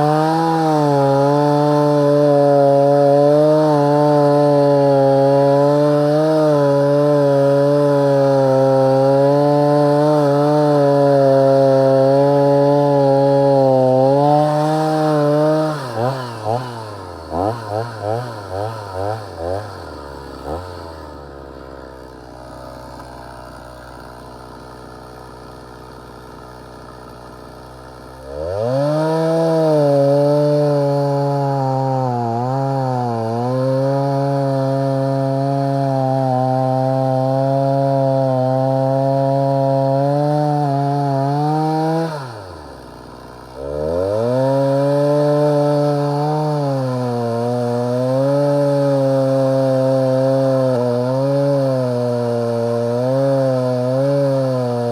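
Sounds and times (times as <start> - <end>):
chainsaw cutting dry wood: 0.0 - 54.9
chainsaw idling: 0.0 - 54.9.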